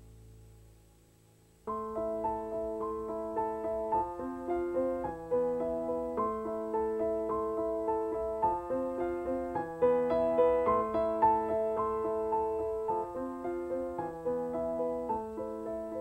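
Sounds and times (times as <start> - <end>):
calm piano melody: 0.0 - 16.0.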